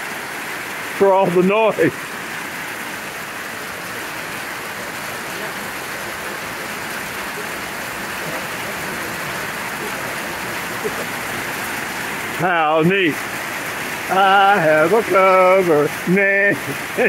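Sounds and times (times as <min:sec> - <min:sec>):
hail and rain on metal cover: 0:00.0 - 0:17.0.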